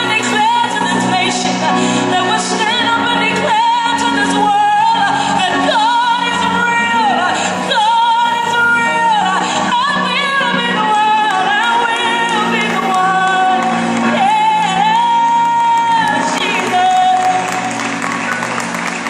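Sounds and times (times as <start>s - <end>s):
woman singing gospel song: 0.0s - 17.9s
musical accompaniment: 0.0s - 19.0s.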